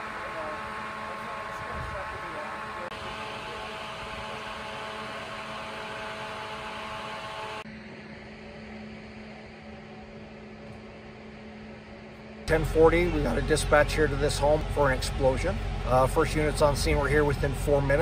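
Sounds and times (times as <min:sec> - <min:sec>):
engine hum: 0:00.0 - 0:18.0
steady tones: 0:00.0 - 0:18.0.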